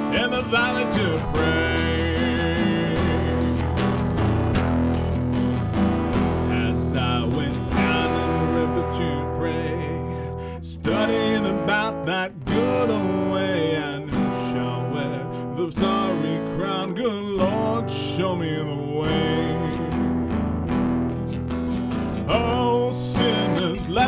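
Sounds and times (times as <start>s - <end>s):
guitar music with sliding melody: 0.0s - 24.0s.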